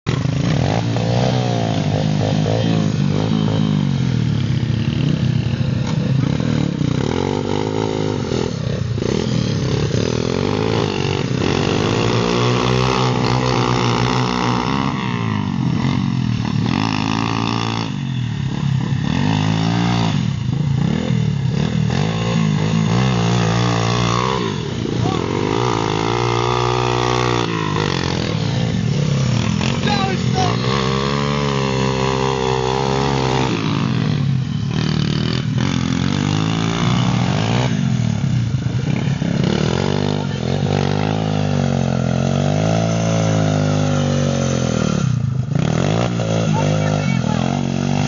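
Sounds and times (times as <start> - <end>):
small motorbike engine revving: 0.1 - 48.0.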